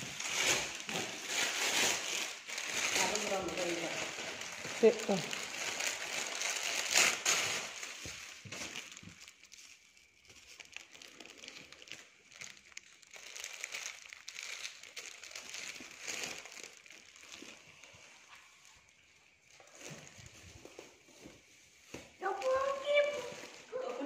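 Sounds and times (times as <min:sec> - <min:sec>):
clothes rustling and crinkling: 0:00.0 - 0:24.0.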